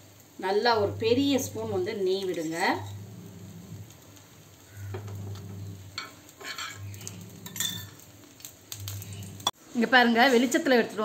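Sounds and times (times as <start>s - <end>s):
light sizzling on a pan: 0.0s - 11.0s.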